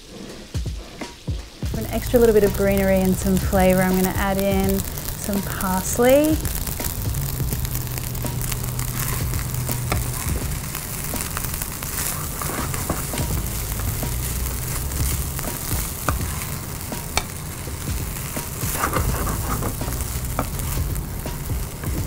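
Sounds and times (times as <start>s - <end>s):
rice sizzling in frying pan: 0.0s - 22.0s
spatula scraping and tapping pan: 2.0s - 22.0s.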